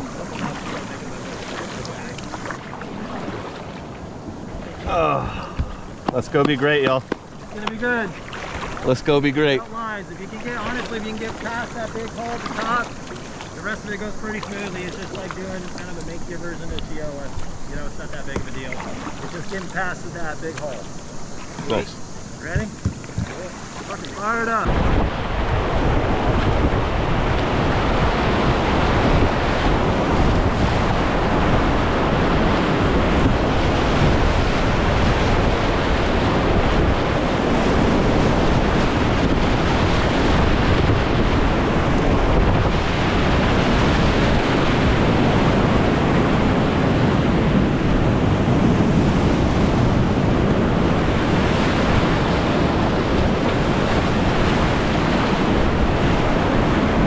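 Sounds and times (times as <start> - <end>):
whitewater rapids rushing: 0.0 - 16.6, 26.5 - 57.0
wind buffeting microphone: 0.0 - 57.0.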